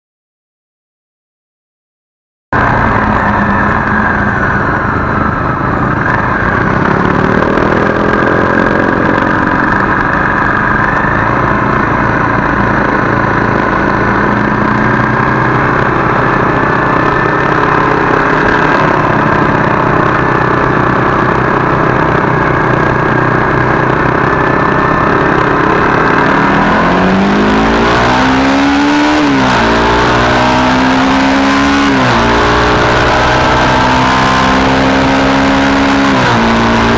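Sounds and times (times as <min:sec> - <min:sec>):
motorcycle engine running: 0:02.6 - 0:36.9.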